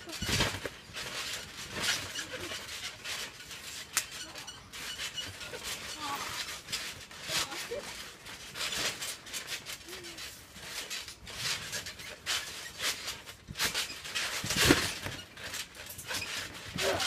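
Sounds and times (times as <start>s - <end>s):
bodies rustling on trampoline mat: 0.0s - 17.0s.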